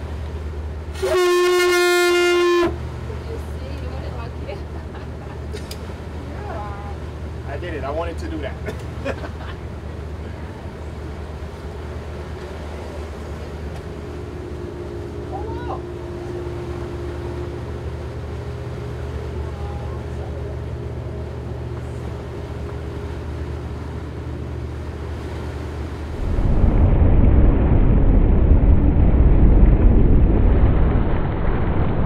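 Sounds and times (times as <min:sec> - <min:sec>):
boat engines droning: 0:00.0 - 0:26.6
wind and water rushing: 0:00.0 - 0:32.0.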